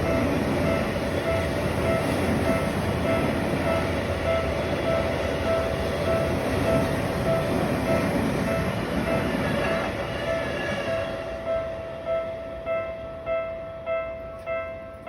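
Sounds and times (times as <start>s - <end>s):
railroad crossing bell ringing: 0.0s - 15.0s
train rumbling past: 0.0s - 15.0s.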